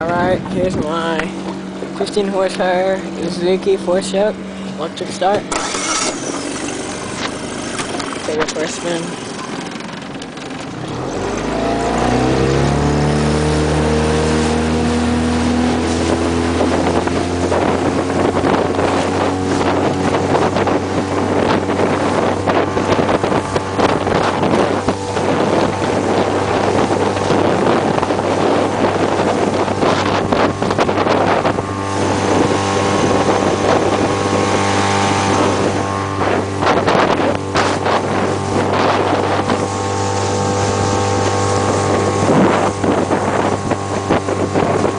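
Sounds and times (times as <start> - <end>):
outboard motor running: 0.0 - 44.9
wind buffeting microphone: 0.0 - 44.9.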